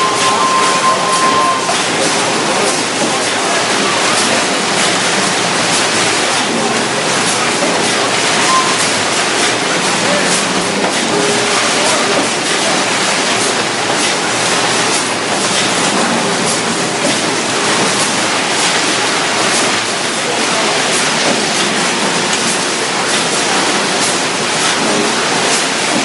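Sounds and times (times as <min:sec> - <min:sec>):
conveyor mechanical noise: 0:00.0 - 0:26.0.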